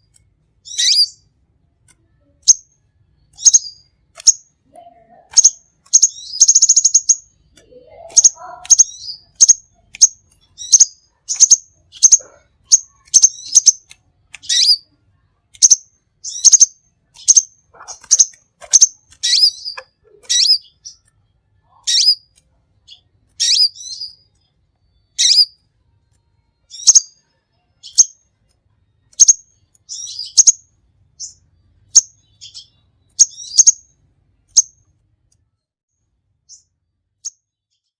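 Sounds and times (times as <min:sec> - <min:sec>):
songbird chirping: 0:00.0 - 0:35.4.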